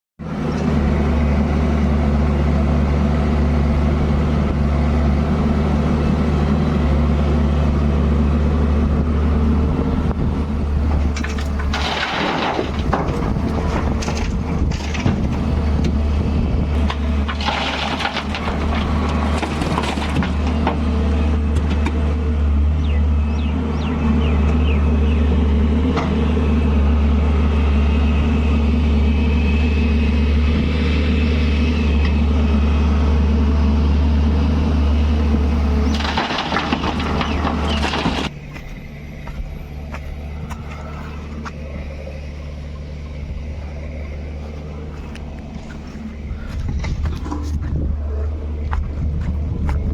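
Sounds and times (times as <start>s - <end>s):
heavy vehicle engine humming: 0.2s - 49.9s.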